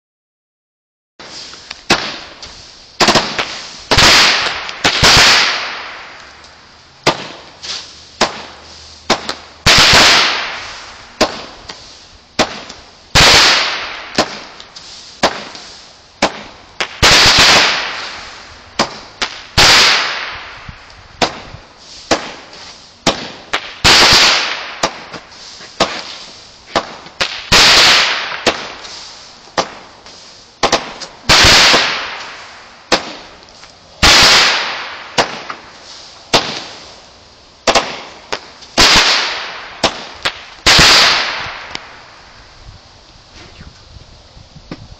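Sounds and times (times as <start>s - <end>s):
small firework pops: 1.2s - 37.0s, 37.6s - 42.2s, 44.7s - 44.9s
fireworks bangs: 1.2s - 42.6s.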